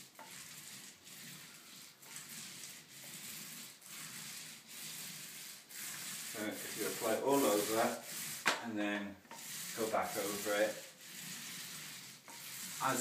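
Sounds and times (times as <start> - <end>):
paint roller sticky hiss: 0.0 - 8.6, 9.3 - 13.0.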